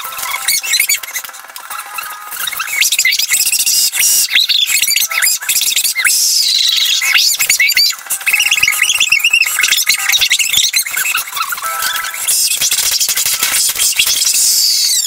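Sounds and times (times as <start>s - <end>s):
high-pitched sped-up screaming: 0.0s - 15.0s
keyboard clicking: 0.0s - 15.0s.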